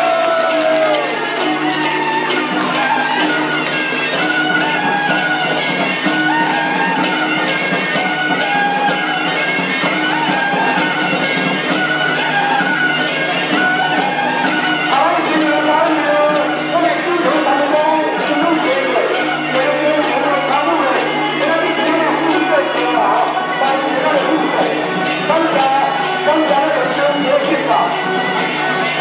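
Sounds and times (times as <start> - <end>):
held melody line: 0.0 - 29.0
percussion beat: 0.0 - 29.0.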